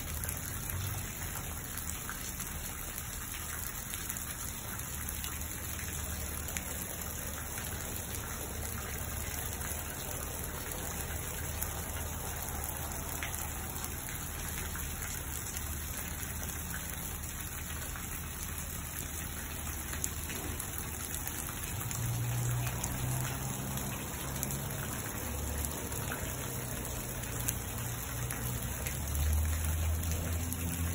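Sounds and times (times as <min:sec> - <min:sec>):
rain falling on shrubs and lawn: 0:00.0 - 0:30.9.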